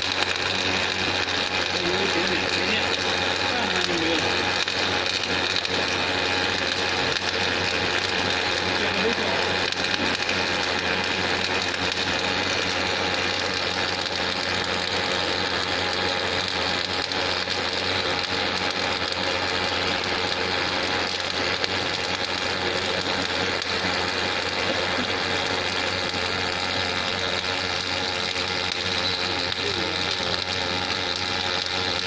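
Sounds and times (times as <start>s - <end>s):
low machine hum: 0.0s - 32.0s
welding arc sizzling: 0.0s - 32.0s.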